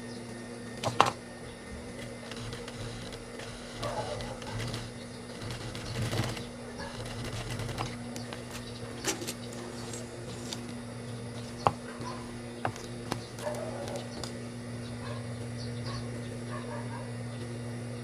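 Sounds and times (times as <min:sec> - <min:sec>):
sewing machine humming: 0:00.0 - 0:18.0.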